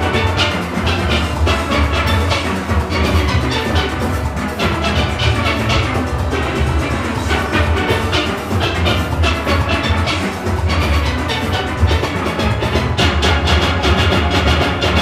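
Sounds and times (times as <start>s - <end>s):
steelpan orchestra music: 0.0s - 15.0s.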